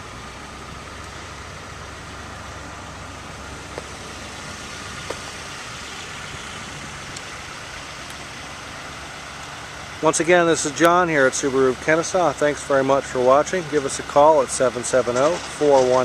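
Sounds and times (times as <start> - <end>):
motor vehicle hum: 0.0 - 16.0.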